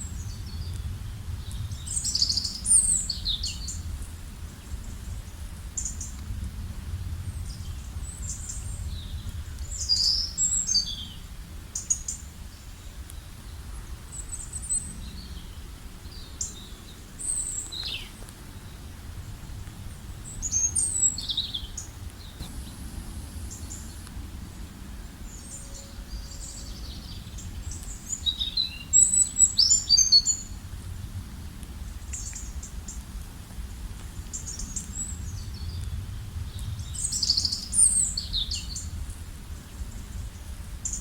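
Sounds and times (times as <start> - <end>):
steady low rumble: 0.0 - 9.9, 13.0 - 29.6, 30.4 - 40.9
songbirds chirping and trilling: 0.0 - 41.0.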